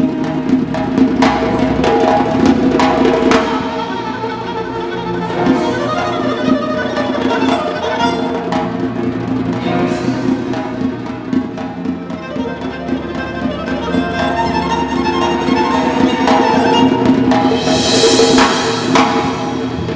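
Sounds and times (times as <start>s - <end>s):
orchestral music: 0.0s - 19.9s
sharp percussion strikes: 0.0s - 19.9s.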